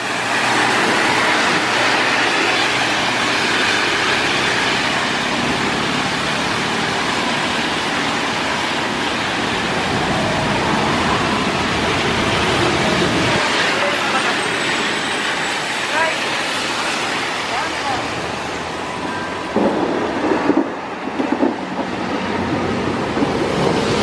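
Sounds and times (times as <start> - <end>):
bus passing: 0.0 - 24.0
tyres hissing on wet road: 0.0 - 24.0.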